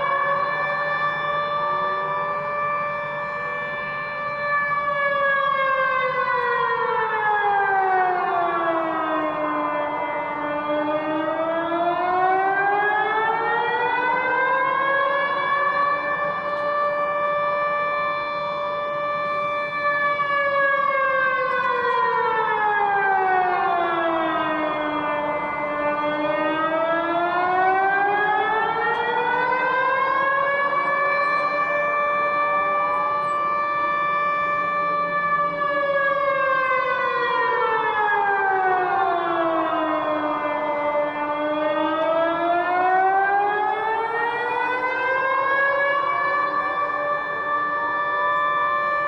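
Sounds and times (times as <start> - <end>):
civil defense siren wailing: 0.0 - 49.0.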